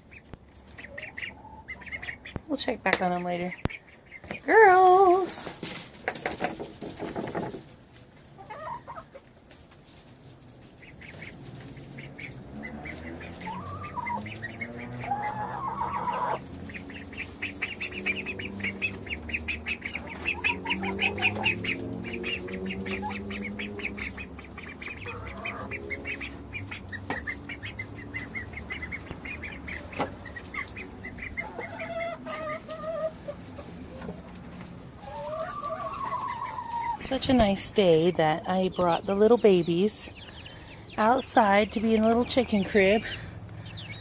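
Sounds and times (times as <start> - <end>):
chickens clucking and calling: 0.0 - 44.0.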